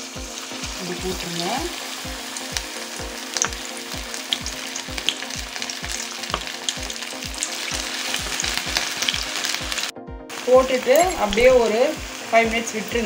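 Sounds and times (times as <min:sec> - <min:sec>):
oil sizzling and bubbling: 0:00.0 - 0:13.0.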